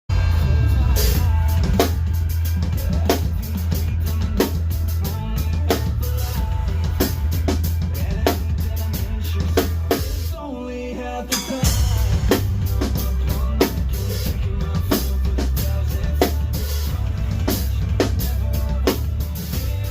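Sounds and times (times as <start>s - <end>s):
drum kit playing: 0.1s - 10.4s, 11.2s - 19.9s
heavy rock track: 0.1s - 19.9s.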